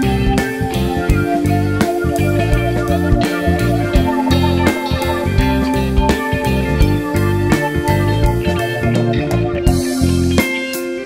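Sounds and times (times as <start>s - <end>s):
steady drum beat: 0.0s - 10.8s
instrumental music with guitar: 0.0s - 11.0s.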